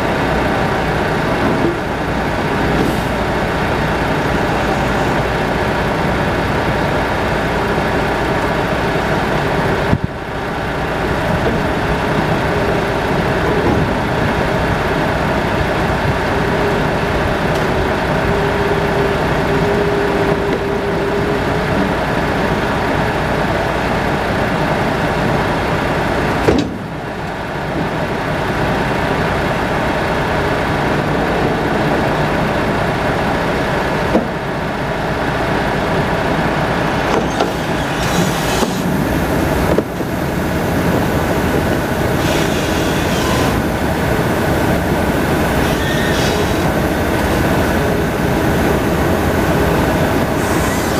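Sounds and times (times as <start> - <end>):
forklift engine running: 0.0 - 50.9.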